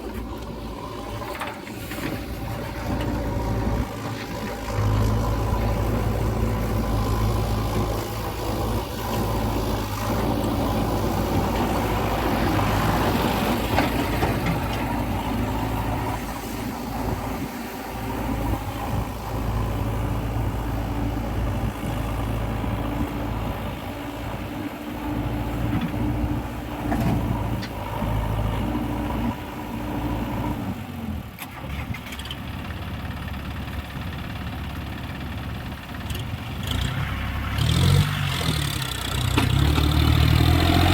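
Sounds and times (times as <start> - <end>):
backhoe diesel engine running: 0.0 - 40.9.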